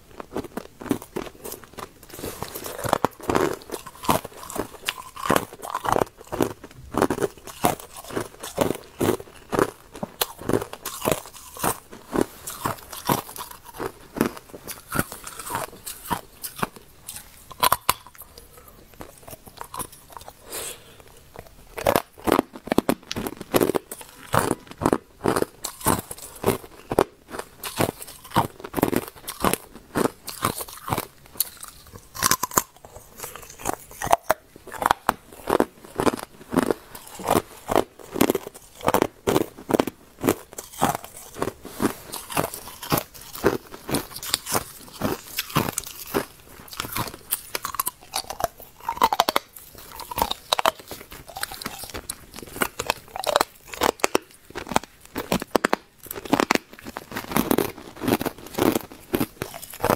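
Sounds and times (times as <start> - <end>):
person crunching ice cubes: 0.1 - 59.9.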